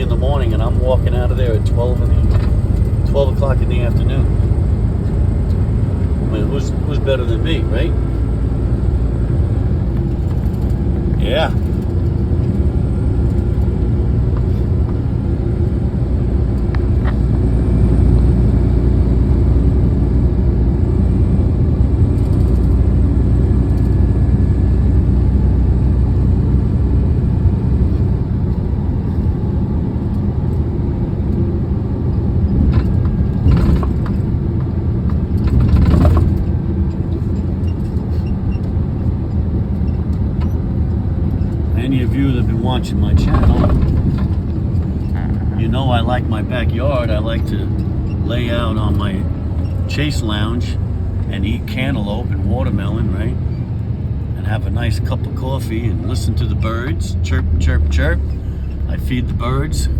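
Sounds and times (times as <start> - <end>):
truck engine and road noise: 0.0 - 59.9.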